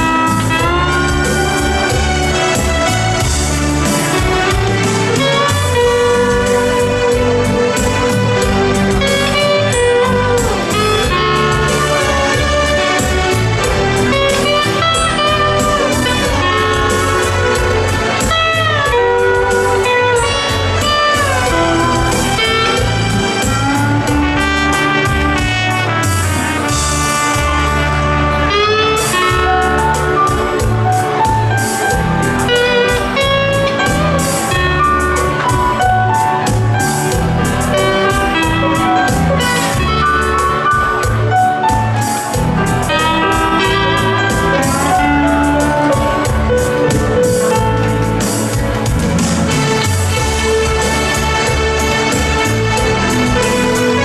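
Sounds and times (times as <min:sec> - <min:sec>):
backing accompaniment with bass line: 0:00.0 - 0:54.0
steel guitar sliding melody: 0:00.0 - 0:54.0.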